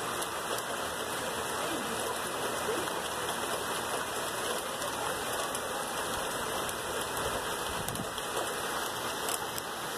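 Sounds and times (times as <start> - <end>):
rain falling steadily: 0.0 - 9.9.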